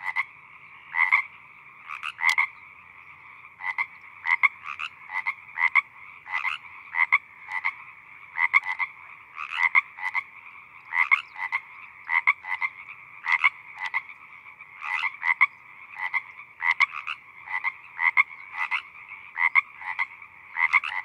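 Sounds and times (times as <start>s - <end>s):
chorus of frogs calling: 0.0s - 21.0s
nearby frogs croaking: 0.0s - 21.0s.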